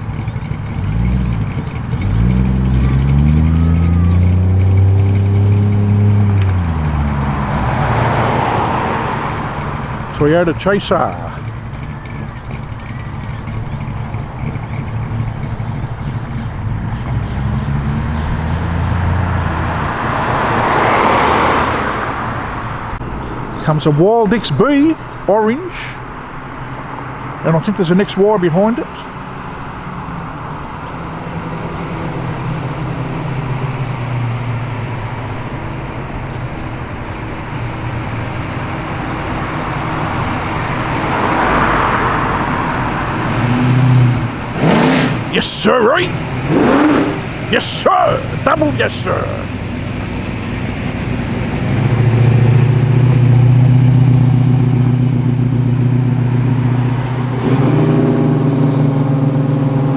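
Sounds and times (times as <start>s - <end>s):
car driving past: 0.0s - 23.8s, 29.0s - 59.9s
car engine idling: 0.0s - 59.9s.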